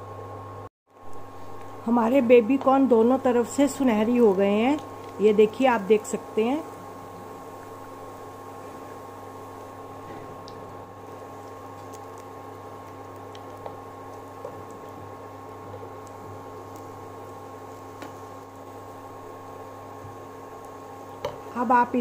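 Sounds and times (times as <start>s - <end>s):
induction cooktop hum: 0.0s - 22.0s
food sizzling in hot oil: 1.0s - 22.0s.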